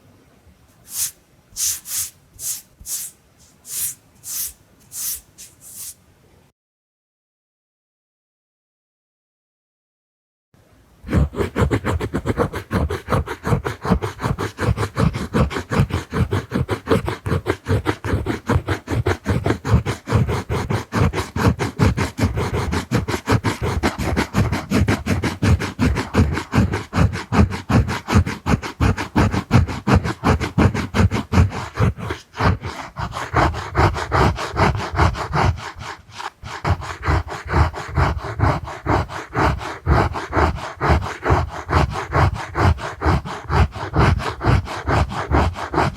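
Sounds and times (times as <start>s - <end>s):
drawing tool scratching on lens: 0.9s - 6.0s, 11.1s - 45.9s.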